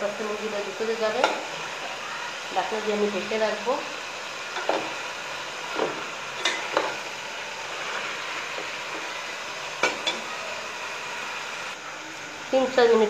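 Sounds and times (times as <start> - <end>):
chicken sizzling in pot: 0.0 - 13.0.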